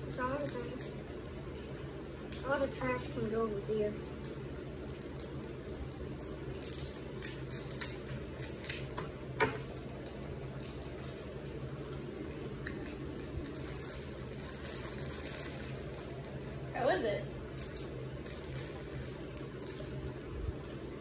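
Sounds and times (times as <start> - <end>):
candy wrapper crinkling: 0.0 - 21.0
low background hum: 0.0 - 21.0.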